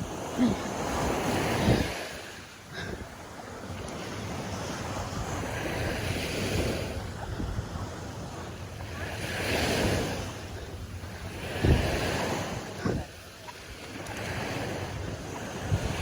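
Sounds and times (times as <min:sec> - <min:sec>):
sea waves washing ashore: 0:00.0 - 0:16.0
wind buffeting microphone: 0:00.0 - 0:16.0.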